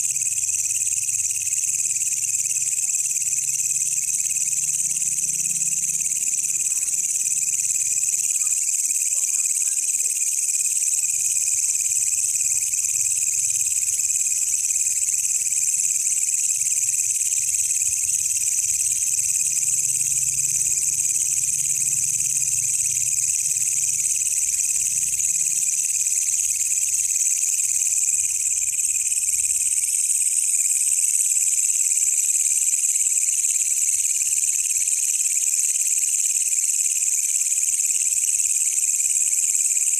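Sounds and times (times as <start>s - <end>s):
bush cricket trilling: 0.0s - 39.9s.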